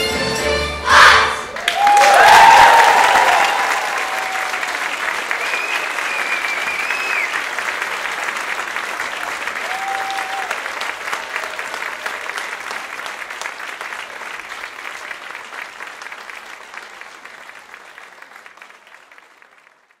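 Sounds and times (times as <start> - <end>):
audience applauding: 1.0 - 20.0.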